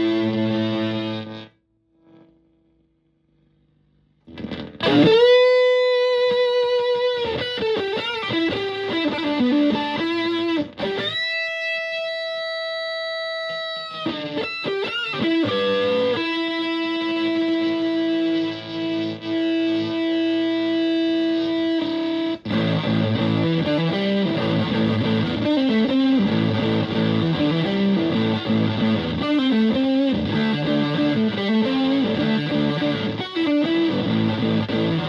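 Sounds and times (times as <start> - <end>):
fuzzed electric guitar: 0.0 - 35.0.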